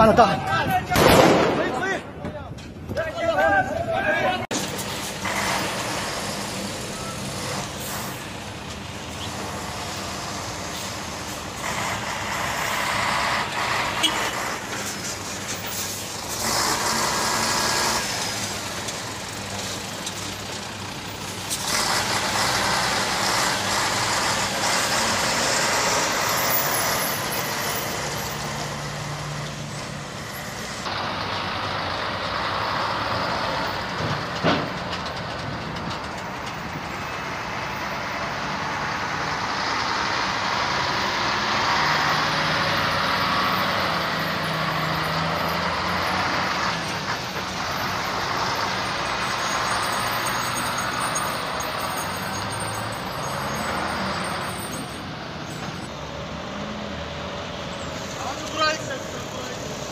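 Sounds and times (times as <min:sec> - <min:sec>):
heavy trucks driving past: 0:00.0 - 0:59.9.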